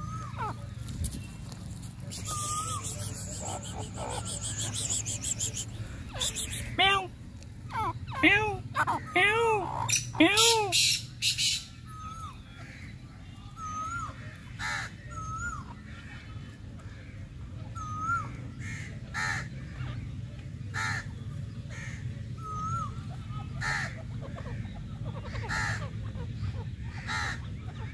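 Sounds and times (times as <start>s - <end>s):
harsh bird calls: 0.0s - 27.9s.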